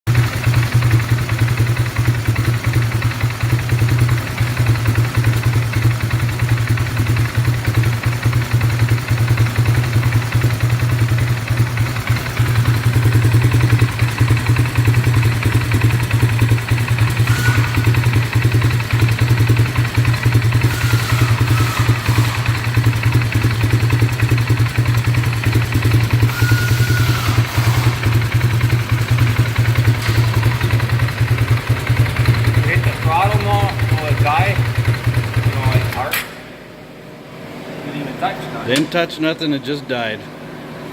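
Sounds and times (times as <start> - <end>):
engine idling with misfire: 0.1 - 36.4.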